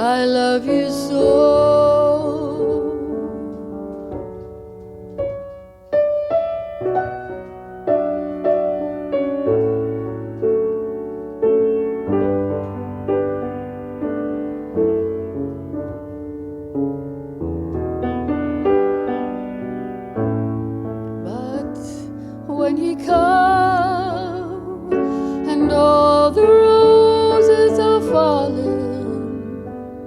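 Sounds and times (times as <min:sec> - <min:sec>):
slow solo piano: 0:00.0 - 0:30.0.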